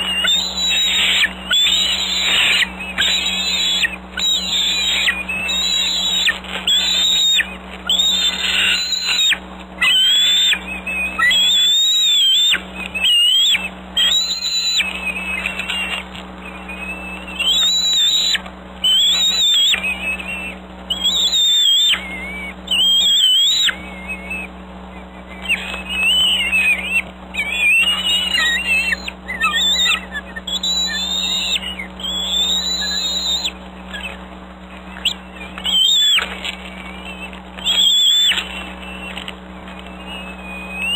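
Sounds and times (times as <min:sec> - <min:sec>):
low electrical hum: 0:00.0 - 0:40.9
young eagles whistling cries: 0:00.0 - 0:40.9.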